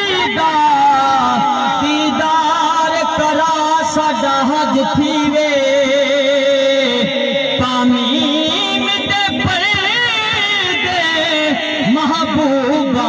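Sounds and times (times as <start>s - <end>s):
man singing through loudspeaker: 0.0s - 13.0s.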